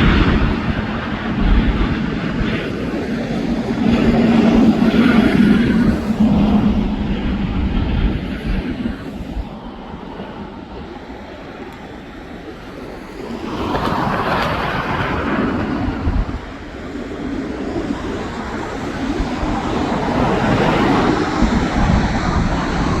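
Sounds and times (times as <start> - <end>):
jet engines roaring at takeoff: 0.0 - 23.0.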